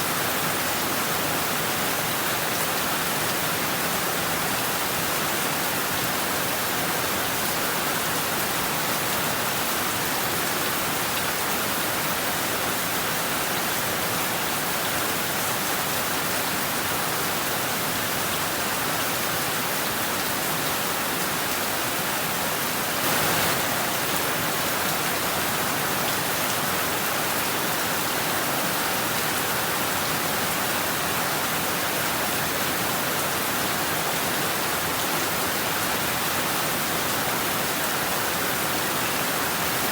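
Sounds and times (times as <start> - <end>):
heavy rain on roofs and trees: 0.0 - 39.9.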